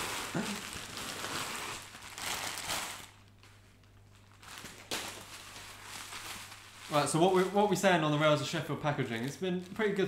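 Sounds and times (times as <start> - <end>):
plastic bag rustling and crinkling: 0.0 - 10.0.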